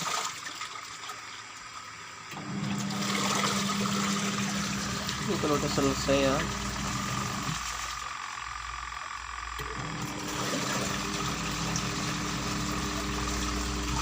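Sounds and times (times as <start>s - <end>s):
washing machine motor humming: 2.2s - 14.0s.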